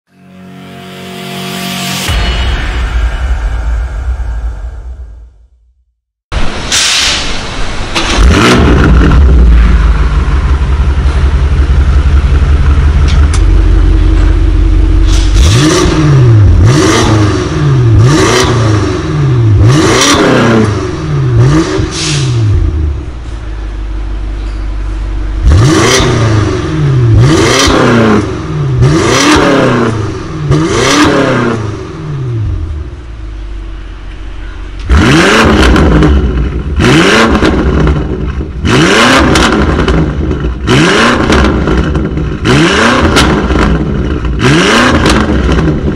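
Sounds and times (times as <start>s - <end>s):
car engine idling and revving: 6.4s - 45.9s.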